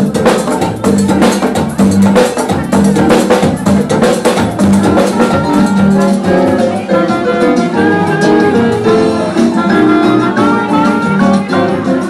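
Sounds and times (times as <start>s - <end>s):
live band music: 0.0s - 12.0s
quick percussion and drum hits: 0.0s - 12.0s.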